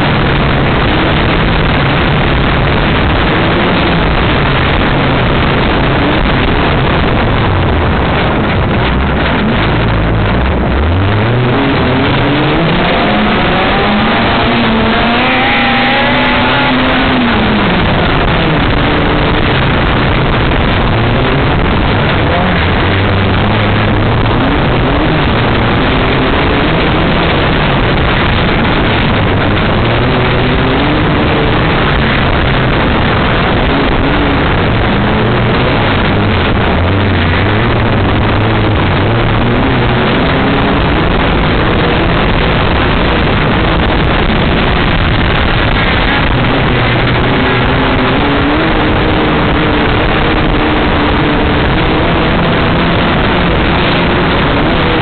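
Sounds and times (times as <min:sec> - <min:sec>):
buggy engine revving: 0:00.0 - 0:55.0
wind noise on microphone: 0:00.0 - 0:55.0.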